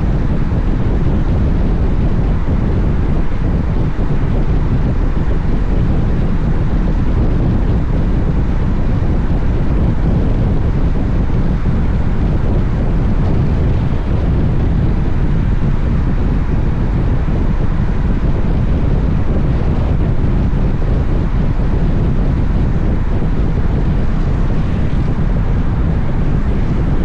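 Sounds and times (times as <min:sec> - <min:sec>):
motorcycle running and road noise: 0:00.0 - 0:27.0
wind rumble on microphone: 0:00.0 - 0:27.0.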